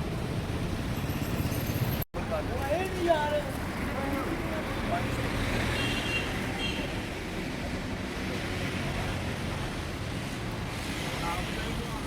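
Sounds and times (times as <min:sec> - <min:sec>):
engines and road traffic rumble: 0:00.0 - 0:12.0.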